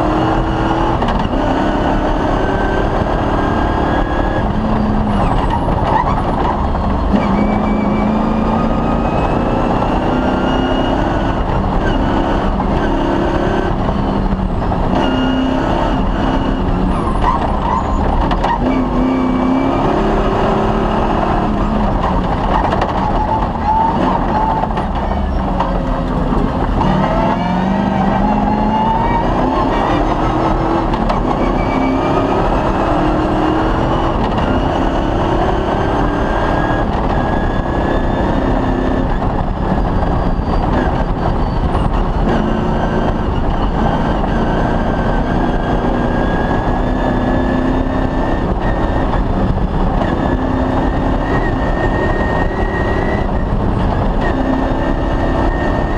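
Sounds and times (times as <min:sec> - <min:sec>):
rally car engine running hard: 0:00.0 - 0:55.9.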